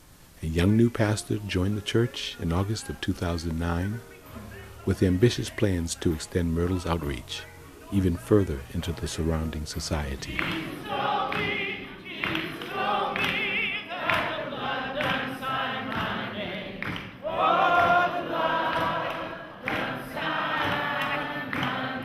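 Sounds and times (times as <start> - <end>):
group singing gospel music: 0.4 - 22.0.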